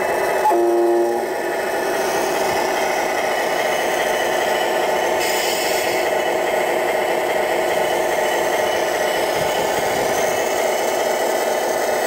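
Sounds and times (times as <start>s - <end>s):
model loader engine drone: 0.0s - 12.0s.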